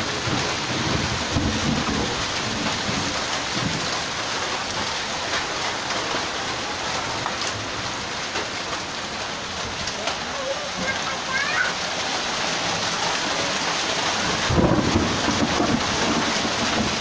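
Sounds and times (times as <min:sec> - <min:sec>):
rain and hail hissing: 0:00.0 - 0:17.0.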